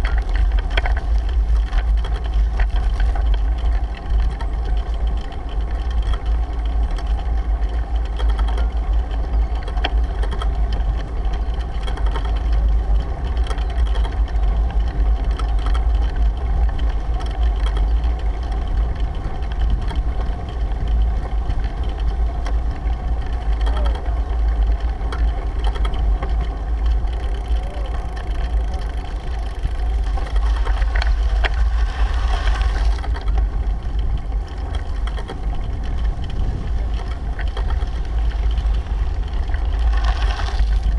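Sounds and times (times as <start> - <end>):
tyre and road noise: 0.0 - 40.9
wind rumble on microphone: 0.0 - 40.9.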